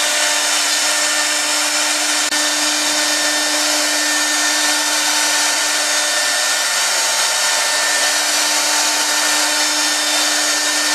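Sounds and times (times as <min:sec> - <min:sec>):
router spindles humming: 0:00.0 - 0:10.9.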